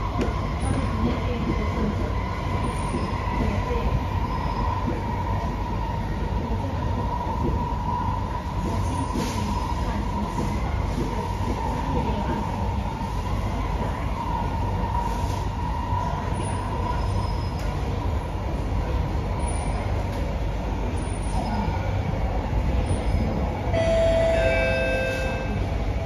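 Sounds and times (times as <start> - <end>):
metro train wheels rumbling: 0.0 - 26.0.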